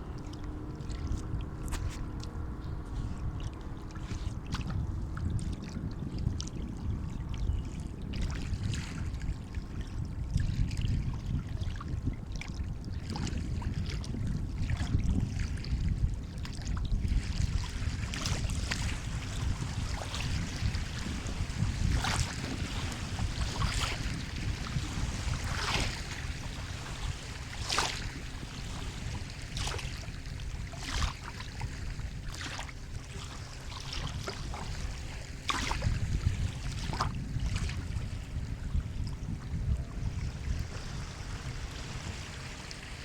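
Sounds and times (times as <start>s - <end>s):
small splashes and fizzing: 0.0s - 15.8s, 16.4s - 43.0s
sea water lapping: 0.0s - 43.0s.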